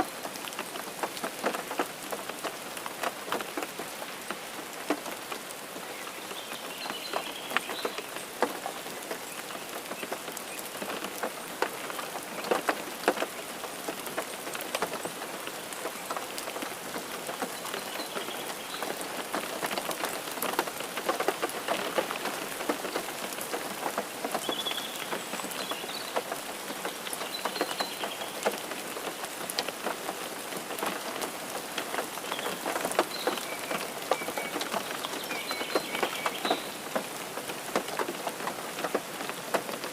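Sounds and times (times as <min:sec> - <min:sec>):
raindrops hitting close by: 0:00.0 - 0:39.9
steady rain: 0:00.0 - 0:39.9.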